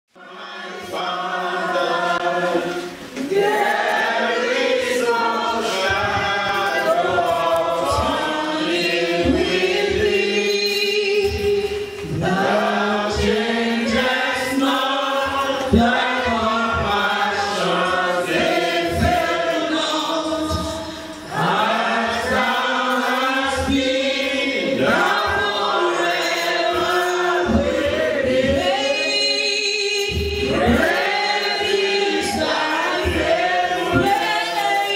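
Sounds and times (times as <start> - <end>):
congregation singing a hymn: 0.1 - 34.9.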